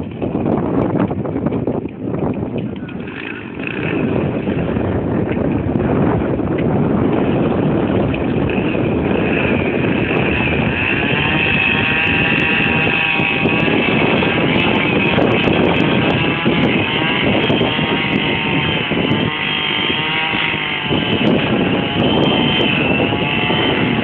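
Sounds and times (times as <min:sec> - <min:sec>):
wind on microphone: 0:00.0 - 0:24.0
motor running: 0:02.5 - 0:24.0.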